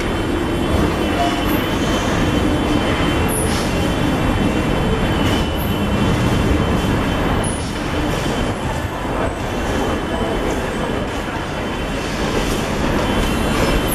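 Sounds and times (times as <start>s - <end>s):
subway train running: 0.0s - 13.9s.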